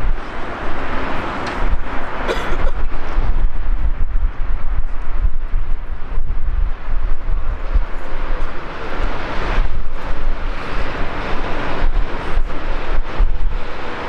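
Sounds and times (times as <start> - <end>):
jet engines rushing: 0.0 - 14.0
wind buffeting microphone: 0.0 - 14.0.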